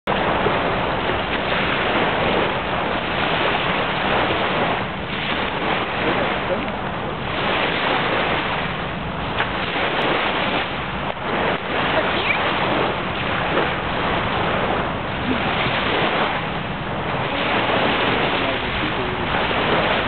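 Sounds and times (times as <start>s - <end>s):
waves washing up shore: 0.1s - 20.0s.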